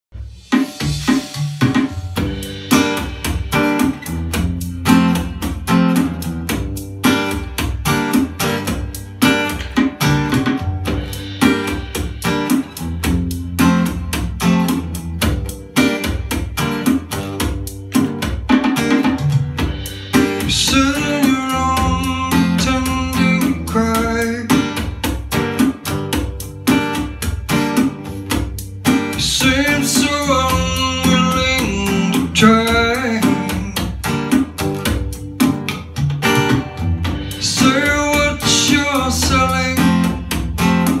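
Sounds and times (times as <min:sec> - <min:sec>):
acoustic guitar strumming: 0:00.2 - 0:41.0.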